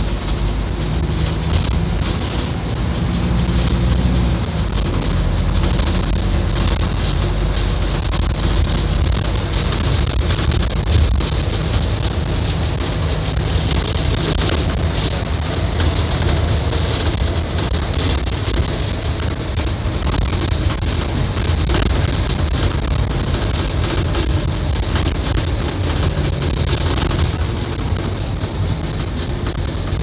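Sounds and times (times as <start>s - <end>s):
bus diesel engine rumble: 0.0s - 30.0s
road noise: 0.0s - 30.0s.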